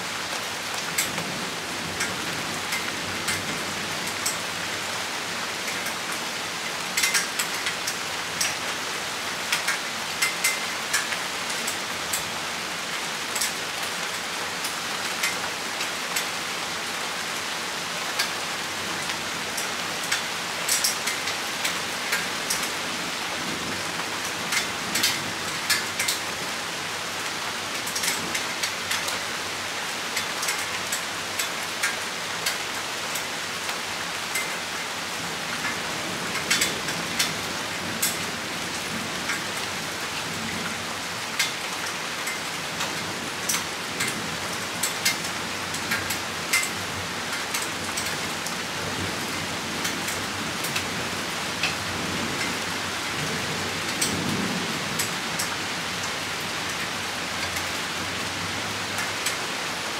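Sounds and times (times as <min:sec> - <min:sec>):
rain falling: 0:00.0 - 0:59.9
raindrops ticking nearby: 0:00.0 - 0:59.9.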